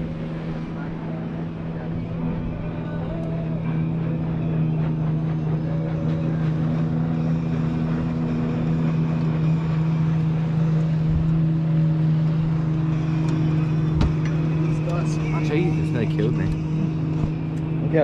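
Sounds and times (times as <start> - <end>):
outboard motor running: 0.0 - 18.0
water noise: 0.0 - 18.0.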